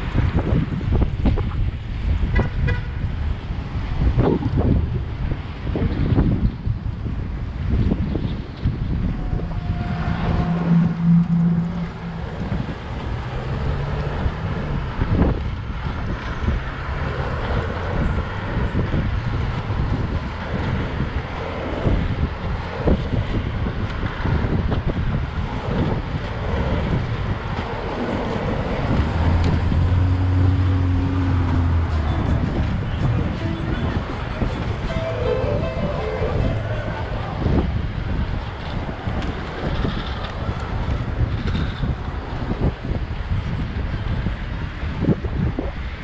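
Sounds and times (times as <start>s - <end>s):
street traffic: 0.0s - 46.0s
vehicle engine hum: 0.0s - 46.0s
wind rushing over microphone: 0.0s - 46.0s.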